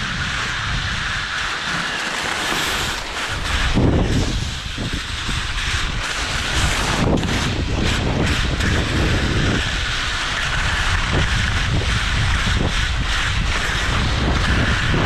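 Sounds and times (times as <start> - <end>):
skis hissing over snow: 0.0 - 15.0
wind on microphone: 0.0 - 15.0.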